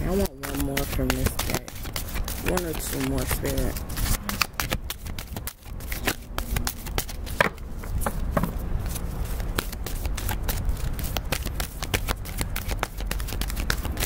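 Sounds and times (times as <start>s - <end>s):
cards being shuffled: 0.0s - 14.0s.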